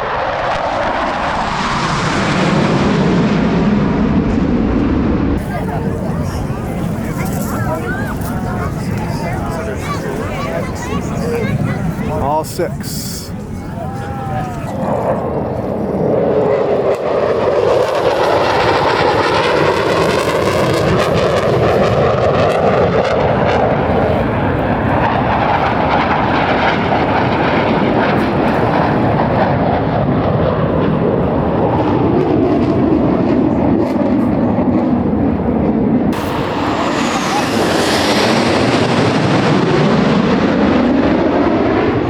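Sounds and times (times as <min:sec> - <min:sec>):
jets flying past: 0:00.0 - 0:42.0.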